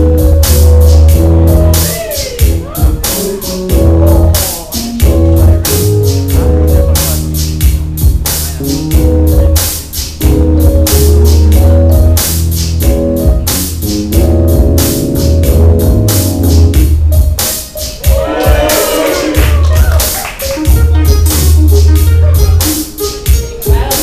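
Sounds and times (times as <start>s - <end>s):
heavy bass: 0.0s - 24.0s
keyboard chords: 0.0s - 24.0s
loud dance music: 0.0s - 24.0s
steady drum beat: 0.0s - 24.0s.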